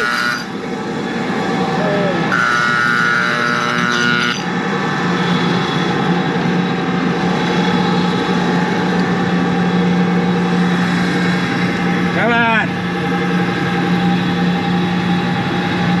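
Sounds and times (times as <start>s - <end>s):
grain dryer running: 0.0s - 16.0s
high-pitched whine: 0.0s - 16.0s.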